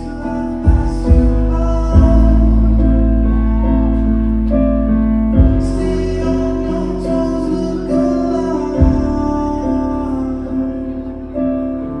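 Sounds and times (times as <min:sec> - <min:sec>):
deep held bass note: 0:00.0 - 0:12.0
sustained keyboard chords: 0:00.0 - 0:12.0.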